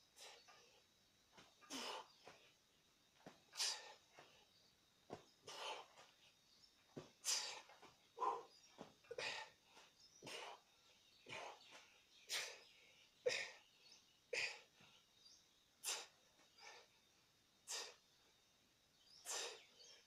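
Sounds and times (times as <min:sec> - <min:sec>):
man's forceful breaths: 0:00.0 - 0:18.2, 0:19.2 - 0:20.0.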